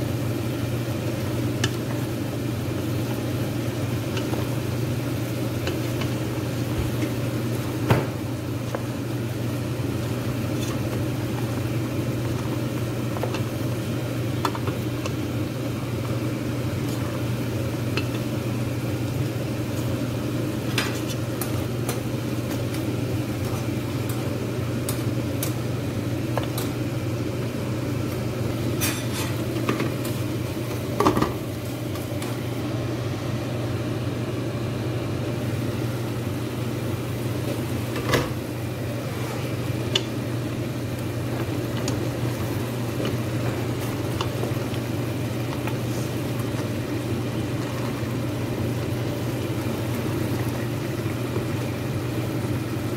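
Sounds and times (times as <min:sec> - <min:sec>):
faint sizzle: 0:00.0 - 0:52.9
steady low hum: 0:00.0 - 0:52.9.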